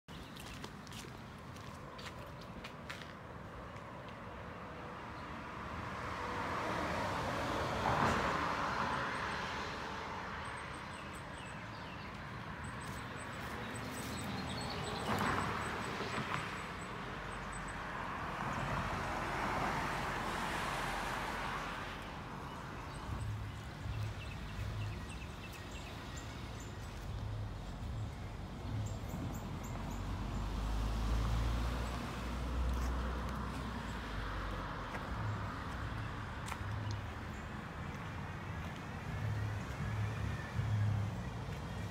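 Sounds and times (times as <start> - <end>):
vehicles passing: 0.1 - 41.9.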